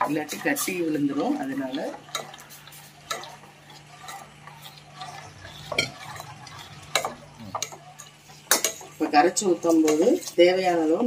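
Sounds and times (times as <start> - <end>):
ladle stirring batter in a pot: 0.0 - 11.0
steady low hum: 0.0 - 11.0.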